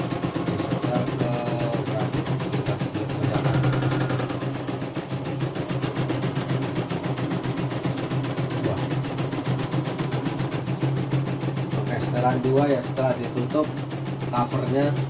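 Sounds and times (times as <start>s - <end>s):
embroidery machine needle clattering: 0.0s - 15.0s
motor hum: 0.0s - 15.0s.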